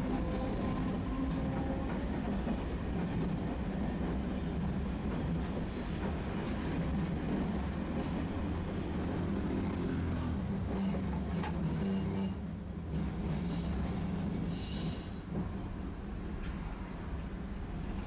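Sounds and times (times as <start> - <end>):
streetcar rumbling on rails: 0.0 - 18.0.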